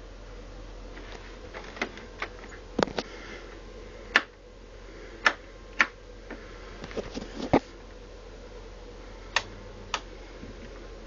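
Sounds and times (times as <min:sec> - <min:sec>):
dehumidifier fan hum: 0:00.0 - 0:11.0.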